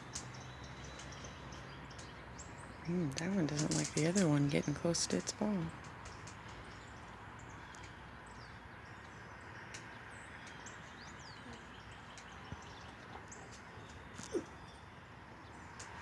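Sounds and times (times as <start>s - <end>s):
outdoor background noise: 0.0s - 16.0s
small birds chirping and whistling: 0.0s - 16.0s.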